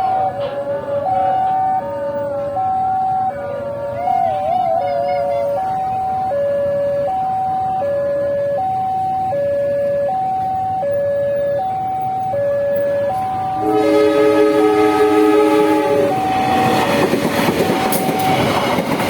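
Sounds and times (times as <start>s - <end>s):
level crossing two-tone alarm: 0.0s - 3.4s, 4.0s - 17.0s.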